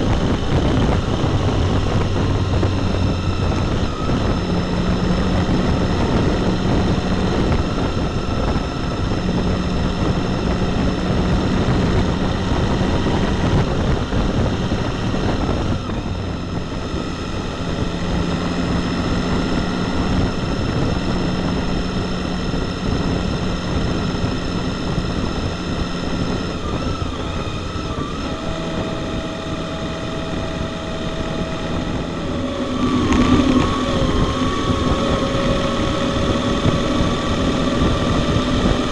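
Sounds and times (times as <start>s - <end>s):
motorcycle engine drone: 0.0s - 38.9s
wind rush: 0.0s - 38.9s.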